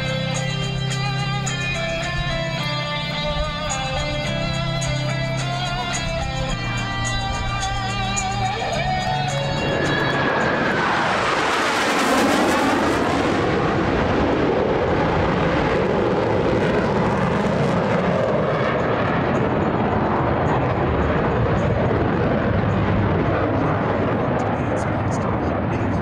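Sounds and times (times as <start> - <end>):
jets flying past: 0.0 - 26.0.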